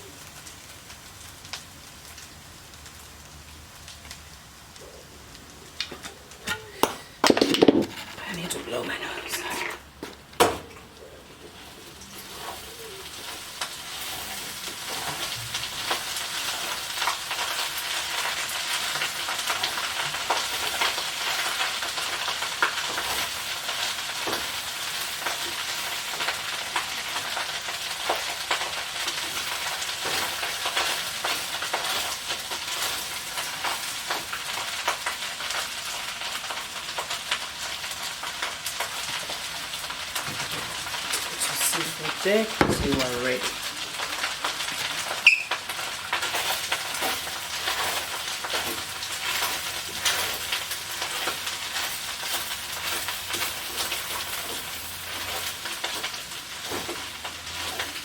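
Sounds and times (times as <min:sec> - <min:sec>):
food sizzling in a pan: 0:00.0 - 0:10.0, 0:10.9 - 0:58.0.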